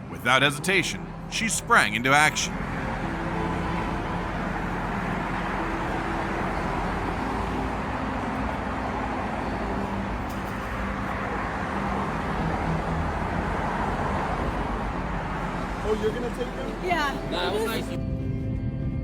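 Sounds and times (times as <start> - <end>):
road traffic noise: 0.0 - 18.6.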